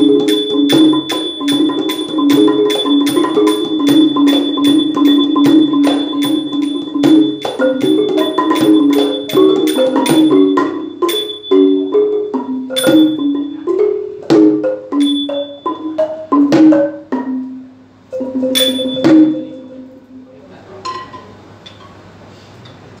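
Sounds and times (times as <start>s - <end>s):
low wooden xylophone: 0.0s - 21.3s
hand drum: 0.0s - 21.6s
small cymbals ringing: 0.0s - 22.2s.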